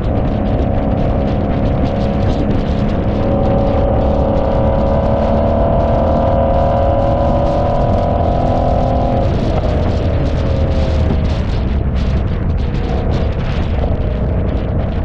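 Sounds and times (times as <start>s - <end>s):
car engine droning: 0.0s - 15.0s
heavy low rumble: 0.0s - 15.0s.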